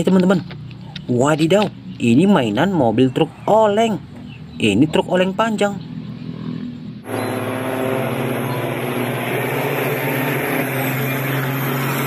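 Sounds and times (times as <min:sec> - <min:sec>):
diesel truck engines running hard: 0:00.0 - 0:12.0.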